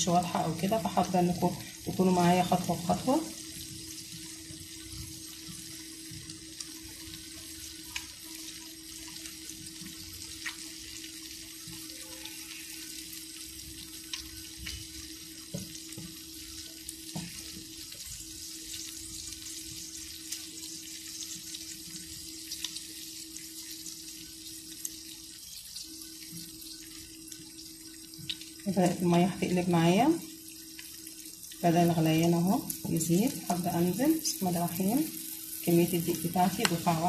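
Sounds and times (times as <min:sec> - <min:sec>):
pan of oil hissing and popping: 0:00.0 - 0:37.0.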